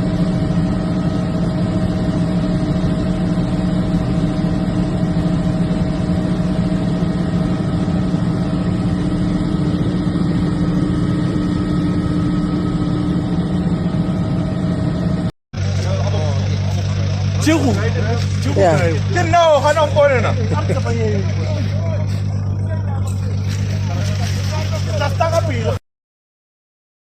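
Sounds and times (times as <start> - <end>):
vehicle engine idling: 0.0 - 25.8.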